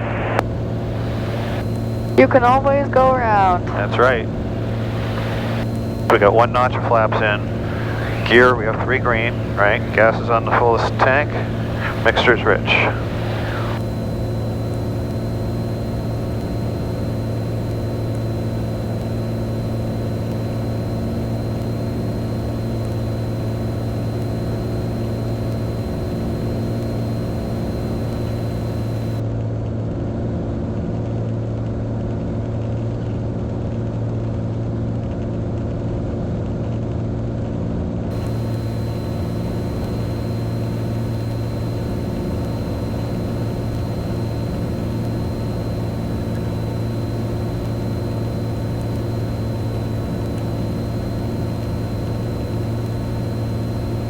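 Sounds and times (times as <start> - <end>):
aircraft engine and propeller drone: 0.0 - 29.2, 38.1 - 54.0
thin high whine: 0.0 - 29.2, 38.1 - 54.0.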